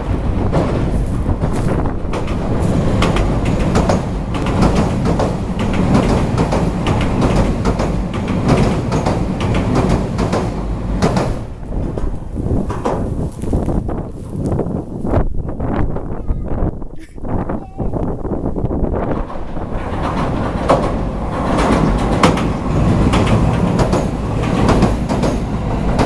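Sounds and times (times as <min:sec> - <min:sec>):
wheels clattering on rails: 0:00.0 - 0:14.9, 0:18.0 - 0:26.0
train rumbling over bridge: 0:00.0 - 0:26.0.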